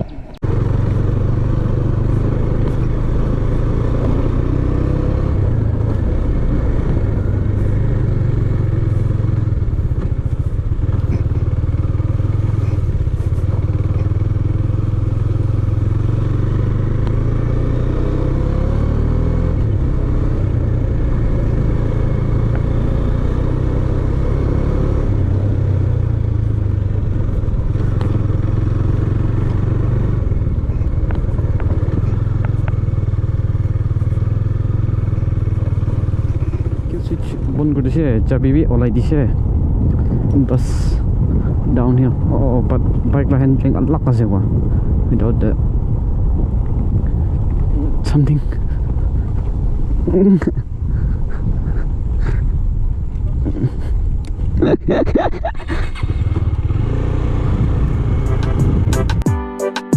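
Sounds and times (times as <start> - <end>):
motorcycle engine running: 0.0 - 59.3
wind and road noise: 0.0 - 59.3.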